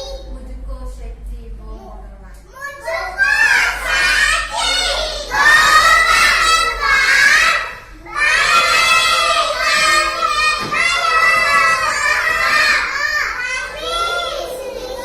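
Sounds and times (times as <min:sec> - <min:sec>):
young children's voices: 0:00.0 - 0:00.8, 0:01.6 - 0:15.0.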